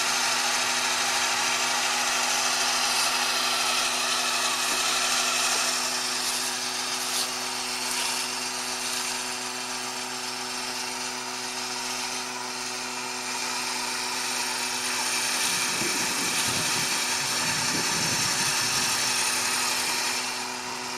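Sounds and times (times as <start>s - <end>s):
tractor motor whining: 0.0s - 20.9s.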